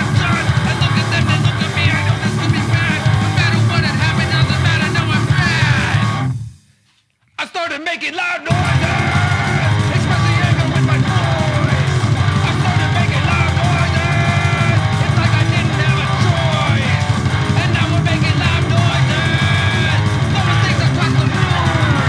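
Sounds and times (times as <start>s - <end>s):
person shouting singing: 0.0s - 6.2s, 8.1s - 22.0s
loud rock song: 0.0s - 6.6s, 8.5s - 22.0s.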